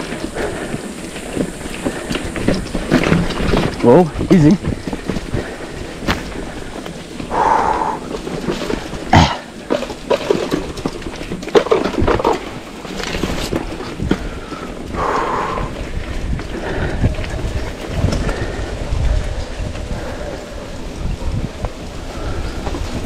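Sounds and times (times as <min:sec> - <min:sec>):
bike knocks and rattles: 0:00.0 - 0:07.3, 0:08.0 - 0:23.0
wind noise on microphone: 0:00.0 - 0:23.0.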